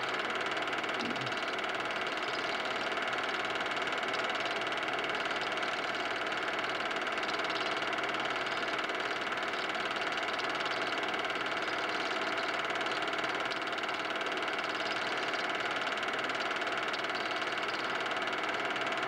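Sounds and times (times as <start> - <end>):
film projector whirring: 0.0 - 19.0.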